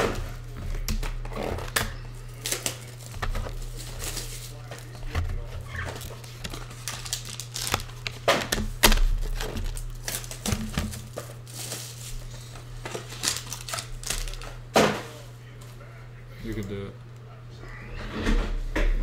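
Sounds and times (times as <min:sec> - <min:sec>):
foil wrappers crinkling: 0:00.0 - 0:15.8.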